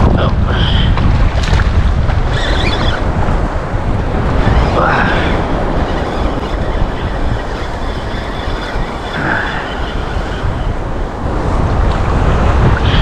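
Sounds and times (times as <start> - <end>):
choppy surf: 0.0 - 13.0
wind buffeting microphone: 0.0 - 13.0.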